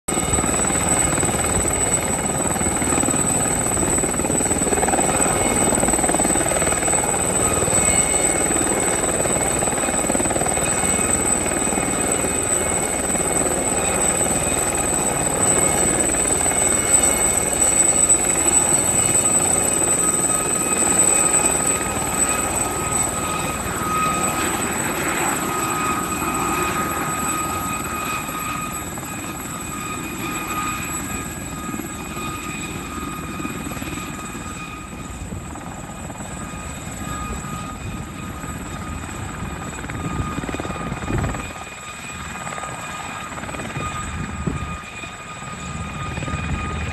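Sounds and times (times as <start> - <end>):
helicopter rotor rushing: 0.1 - 46.9
high turbine whines: 0.1 - 46.9.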